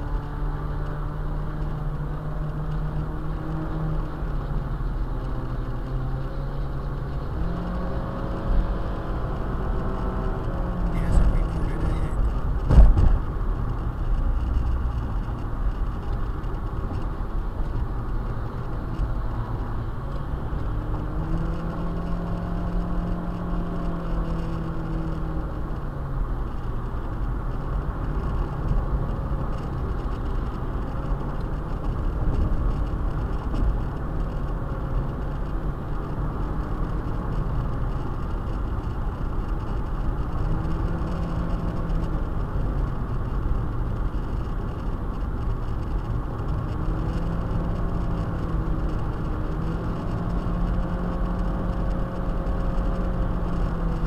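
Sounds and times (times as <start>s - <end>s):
car engine note climbing: 0.0s - 54.0s
road and tyre rumble: 0.0s - 54.0s.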